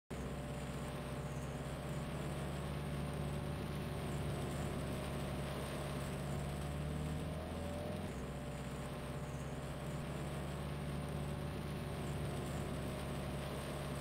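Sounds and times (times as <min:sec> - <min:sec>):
vehicle engine running: 0:00.1 - 0:14.0.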